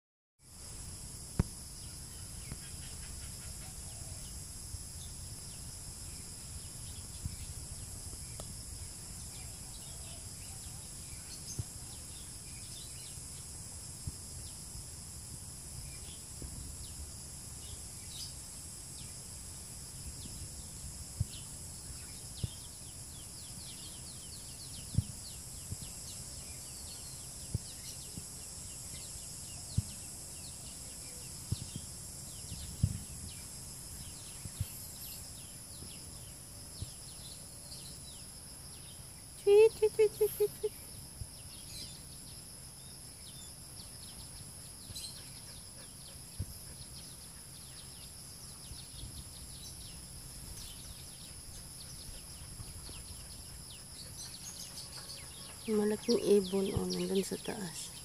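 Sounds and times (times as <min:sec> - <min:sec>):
insects droning: 0:00.4 - 0:58.0.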